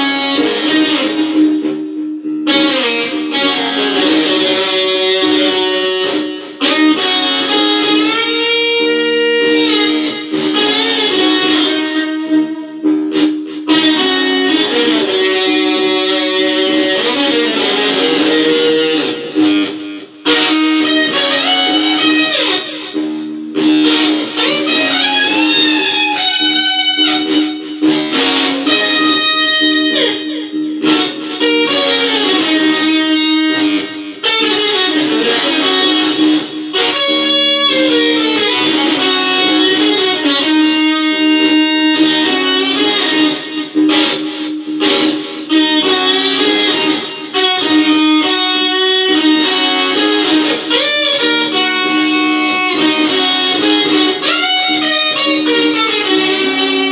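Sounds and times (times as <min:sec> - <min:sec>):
electric guitar blues lead: 0:00.0 - 0:56.9.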